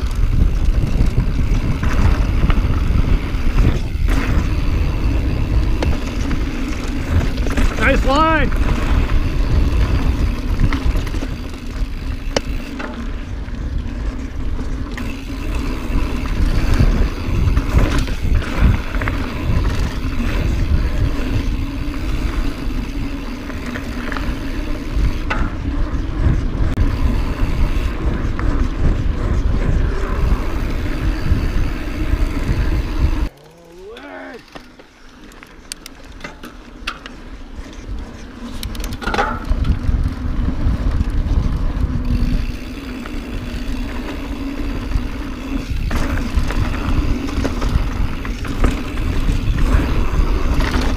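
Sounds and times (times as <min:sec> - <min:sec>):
bike rattling and knocking: 0:00.0 - 0:33.3, 0:34.4 - 0:50.9
bike tyres clattering over rock: 0:00.0 - 0:33.3, 0:38.0 - 0:50.9.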